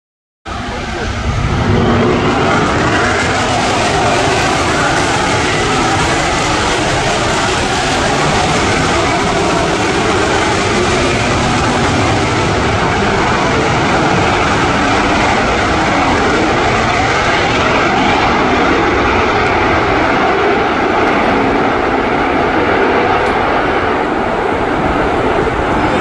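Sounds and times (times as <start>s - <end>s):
loud jet engine noise: 0.5s - 26.0s.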